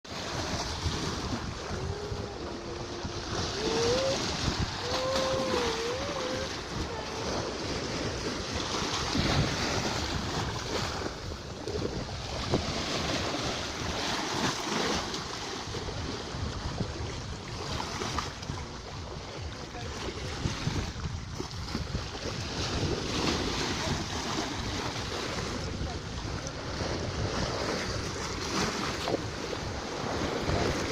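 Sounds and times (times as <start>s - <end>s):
ocean waves washing in: 0.1s - 30.9s
wind buffeting microphone: 0.1s - 30.9s.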